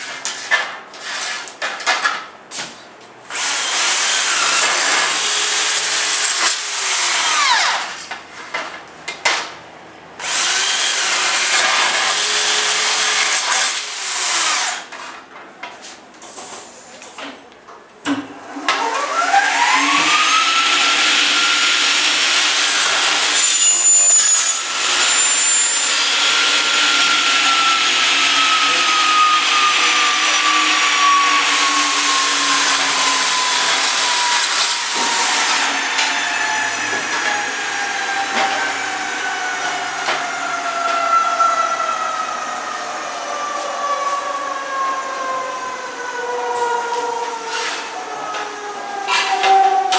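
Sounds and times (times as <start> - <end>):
electric saw whining: 3.3 - 8.1, 10.2 - 14.9, 18.4 - 49.9.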